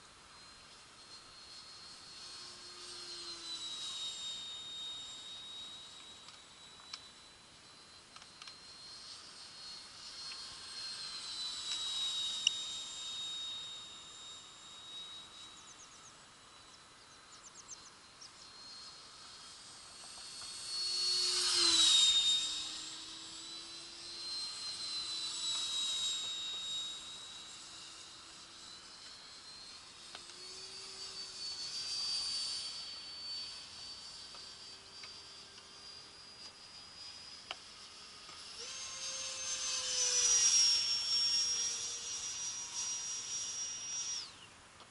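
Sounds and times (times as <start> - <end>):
model aircraft motor whine: 0.0 - 44.9.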